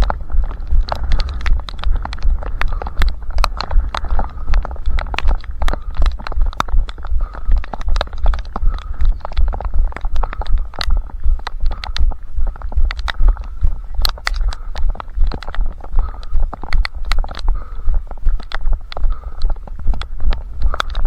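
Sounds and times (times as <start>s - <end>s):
gear jostling ticks and clicks: 0.0s - 21.0s.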